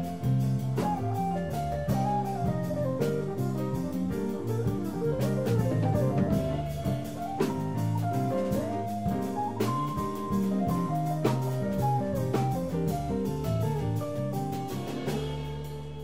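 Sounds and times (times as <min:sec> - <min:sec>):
drum kit hits: 0:00.0 - 0:16.0
electric bass guitar: 0:00.0 - 0:16.0.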